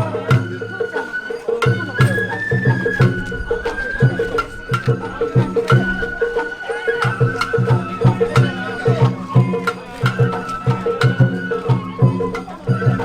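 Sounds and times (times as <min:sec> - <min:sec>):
bamboo flute melody: 0:00.0 - 0:13.0
taiko drums beating: 0:00.0 - 0:13.0.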